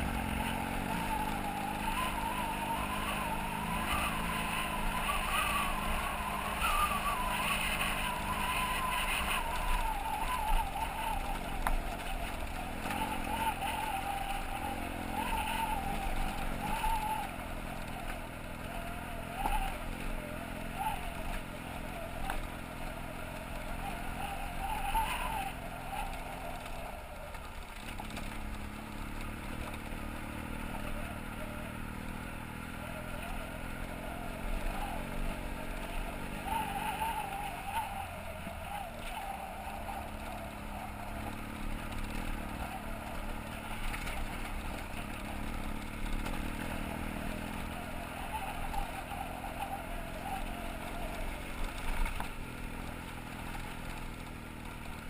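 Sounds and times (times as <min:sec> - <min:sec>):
motorcycle engine running: 0:00.0 - 0:55.0
road noise on gravel: 0:00.0 - 0:55.0
wind: 0:00.0 - 0:55.0.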